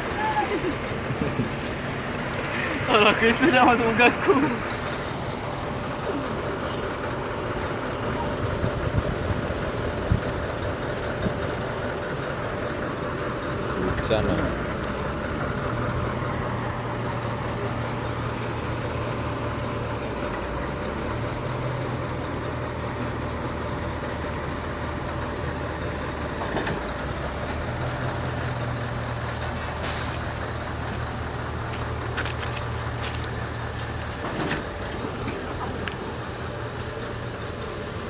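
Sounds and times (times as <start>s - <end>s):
diesel engine rumbling: 0.0s - 38.0s.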